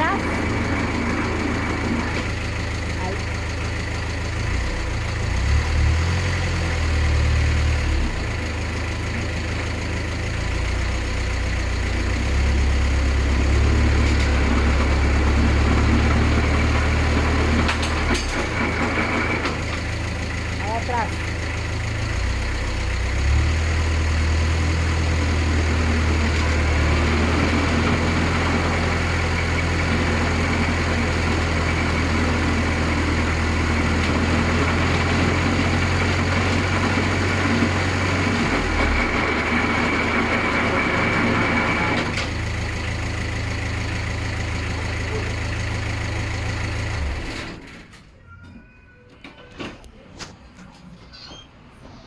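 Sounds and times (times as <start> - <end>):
vehicle engine humming: 0.0 - 47.7.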